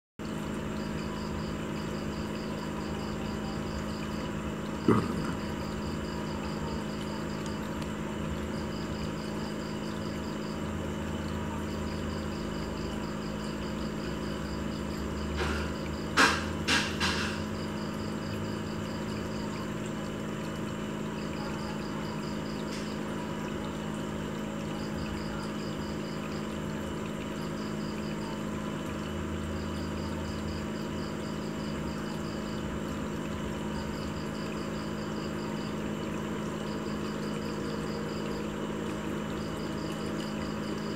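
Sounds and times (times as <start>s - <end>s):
aquarium pump humming: 0.2s - 40.9s.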